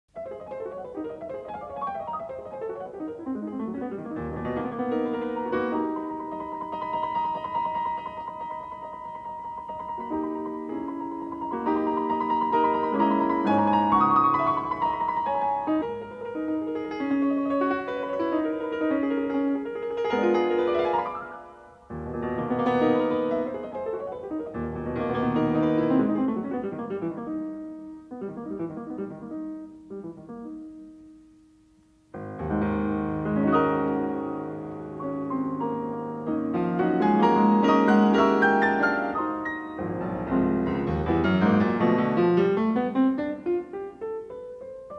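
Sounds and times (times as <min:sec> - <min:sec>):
piano music: 0:00.1 - 0:44.9.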